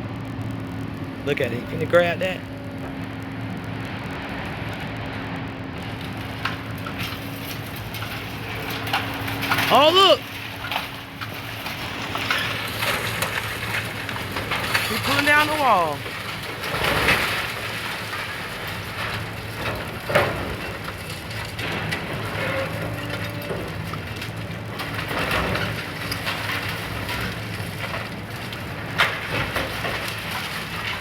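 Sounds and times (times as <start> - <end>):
excavator engine hum: 0.0 - 31.0
concrete debris crumbling and falling: 5.8 - 31.0.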